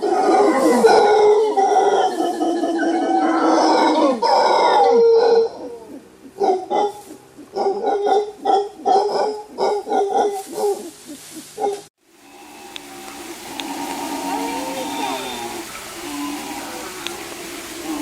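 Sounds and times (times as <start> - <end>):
primate calling: 0.0 - 18.0.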